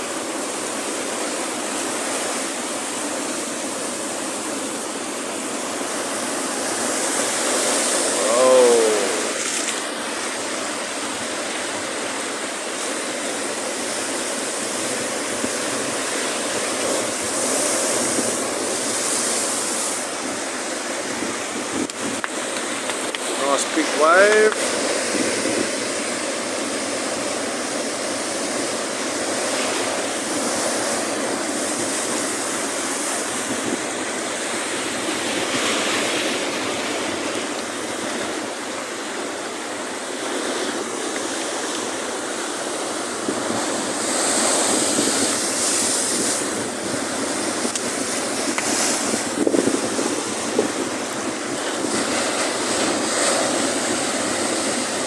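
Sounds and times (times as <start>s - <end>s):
ocean surf washing: 0.0s - 55.0s
waves crashing: 0.0s - 55.0s.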